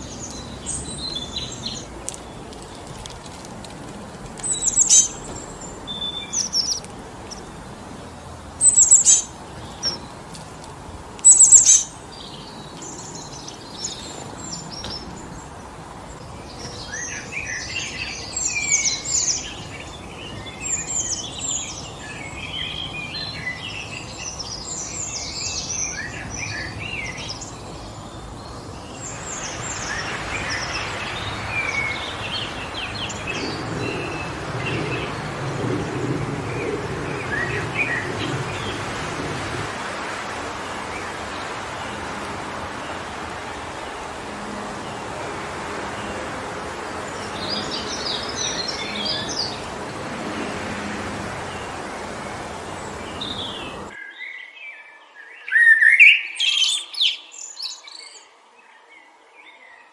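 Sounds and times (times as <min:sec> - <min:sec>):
songbirds calling: 0:00.0 - 0:59.9
wind in the trees: 0:00.0 - 0:59.9.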